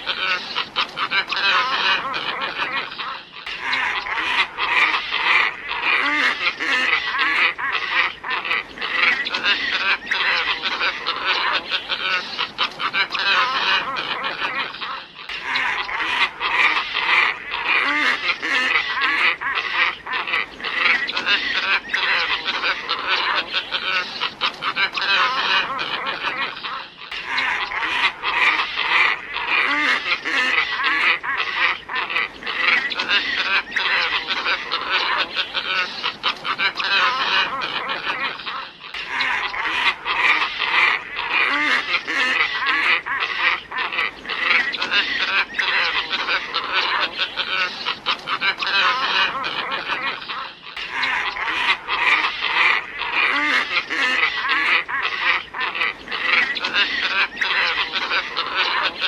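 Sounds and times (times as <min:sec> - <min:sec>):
ibis grunting calls: 0:00.0 - 0:59.0.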